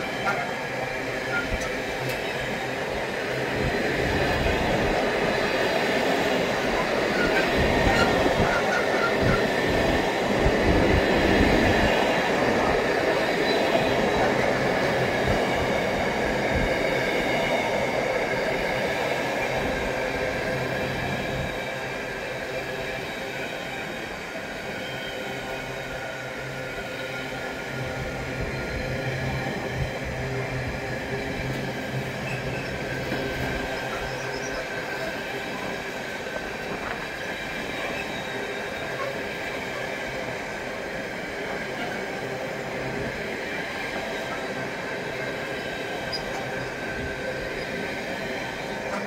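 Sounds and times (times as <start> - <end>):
freight train wheels rumbling on rail: 0.0 - 49.0.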